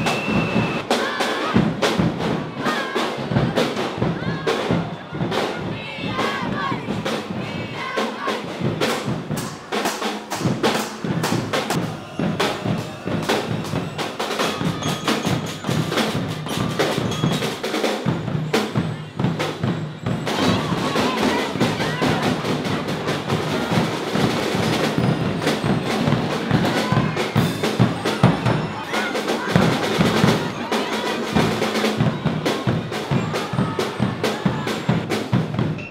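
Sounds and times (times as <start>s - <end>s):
drum corps snare and bass drums: 0.0s - 35.9s
students shouting and cheering: 0.0s - 35.9s.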